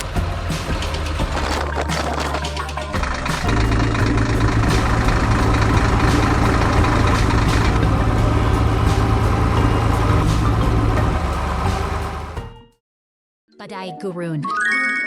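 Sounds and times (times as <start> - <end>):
vehicle engine pulsing hum: 0.0 - 12.4.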